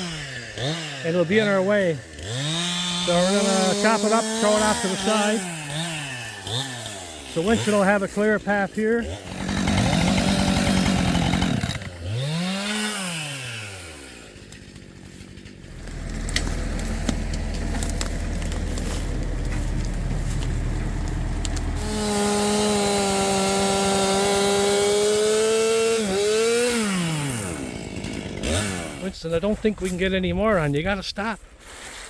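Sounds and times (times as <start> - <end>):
chainsaw revving and idling: 0.0 - 30.0.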